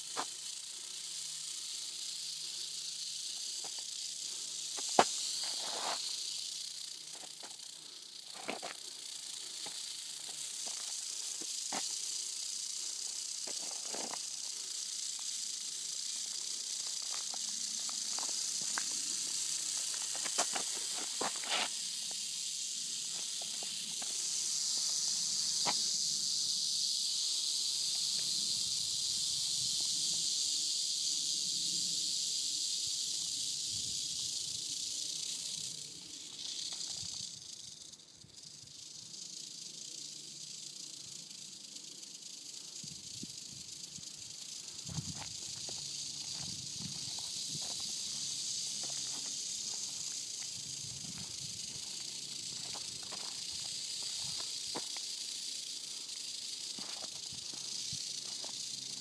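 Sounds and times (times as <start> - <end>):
rattlesnake tail rattling: 0.0 - 59.0.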